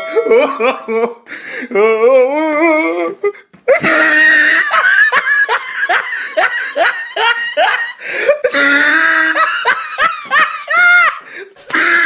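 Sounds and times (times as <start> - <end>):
person laughing: 0.0 - 1.9, 2.8 - 12.0.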